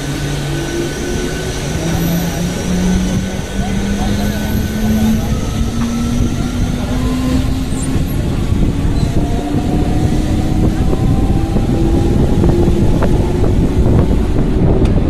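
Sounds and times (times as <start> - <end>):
traction motor whine: 0.0 - 15.0
train wheels rumbling: 0.0 - 15.0
wind buffeting microphone: 0.0 - 15.0.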